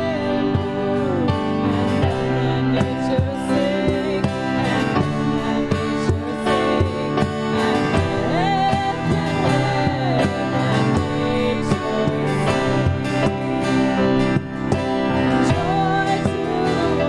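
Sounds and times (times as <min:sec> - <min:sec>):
cajon beat: 0:00.0 - 0:17.0
woman singing: 0:00.0 - 0:17.0
worship band playing: 0:00.0 - 0:17.0.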